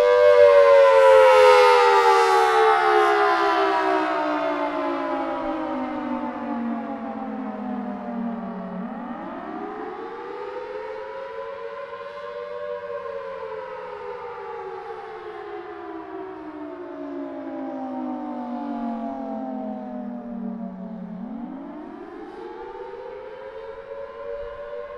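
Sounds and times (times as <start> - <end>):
outdoor warning siren: 0.0 - 24.9.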